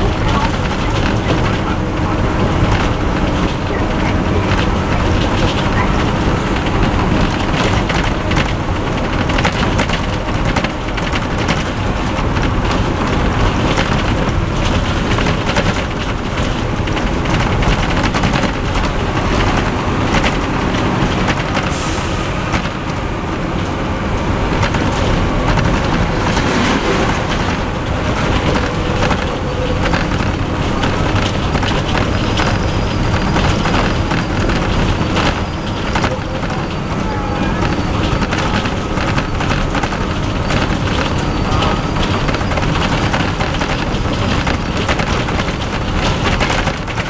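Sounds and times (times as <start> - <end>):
bus body rattles: 0.0 - 47.0
bus engine rumble: 0.0 - 47.0
road and wind noise: 0.0 - 47.0.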